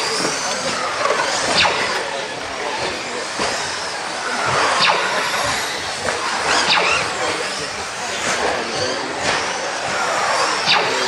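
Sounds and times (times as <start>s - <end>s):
rc car motors whining past: 0.0s - 11.0s.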